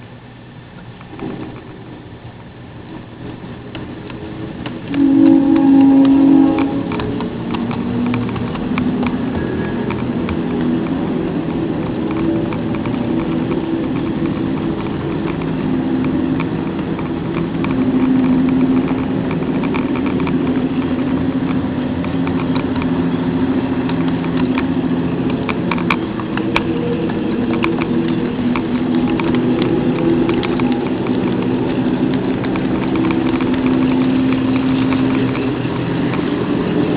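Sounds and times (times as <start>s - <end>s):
wheels clicking on rails: 0.0s - 36.9s
model train whirring: 1.1s - 36.9s.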